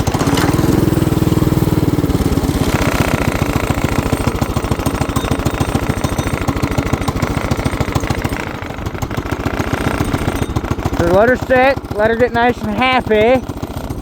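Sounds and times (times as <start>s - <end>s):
small petrol engine idling: 0.0s - 14.0s.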